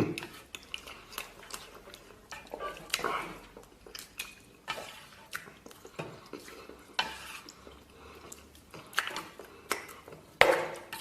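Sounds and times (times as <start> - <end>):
quiet chewing: 0.1 - 11.0.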